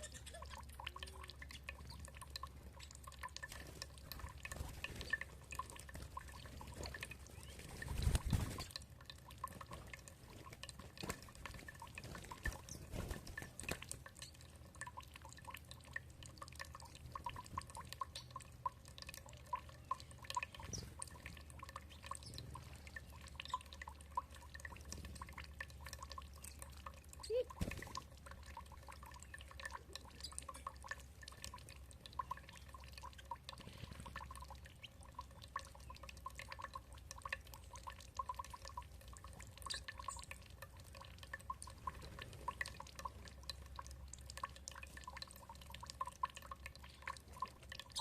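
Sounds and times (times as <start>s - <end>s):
water dripping and trickling: 0.0s - 48.0s.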